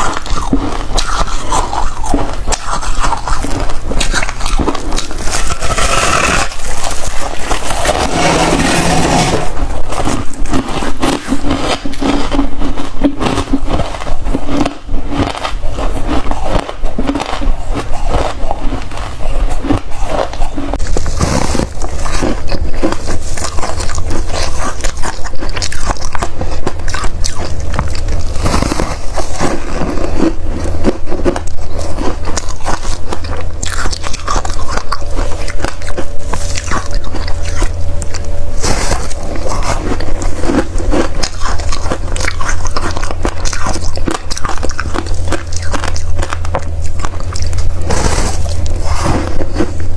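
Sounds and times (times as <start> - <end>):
crunching ice while chewing: 0.0 - 49.9.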